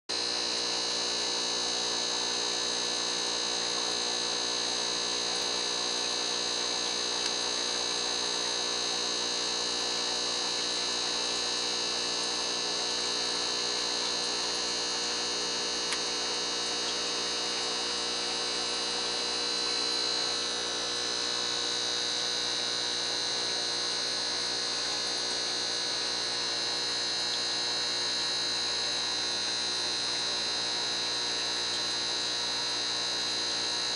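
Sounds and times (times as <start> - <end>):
electrical hum: 0.1 - 33.9.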